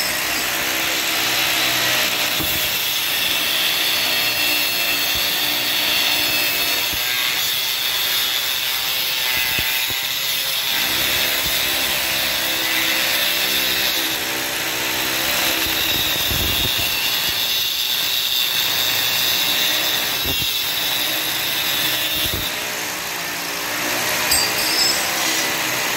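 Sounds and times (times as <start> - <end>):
angle grinder cutting steel: 0.0 - 25.9.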